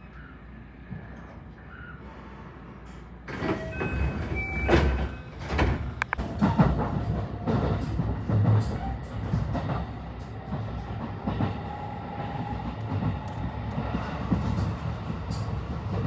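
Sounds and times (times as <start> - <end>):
electric train running on rails: 0.0 - 16.0
wheels clicking over rail joints: 2.8 - 16.0.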